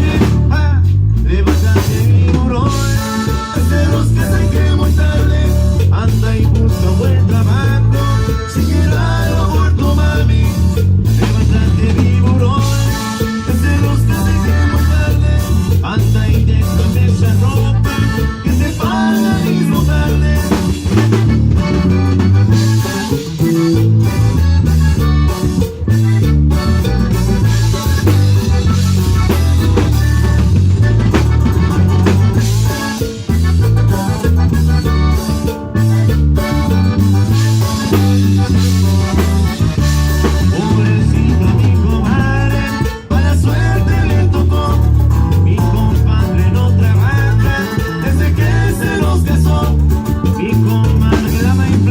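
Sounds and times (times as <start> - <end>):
live band music: 0.0 - 51.9
strong bass line: 0.0 - 51.9.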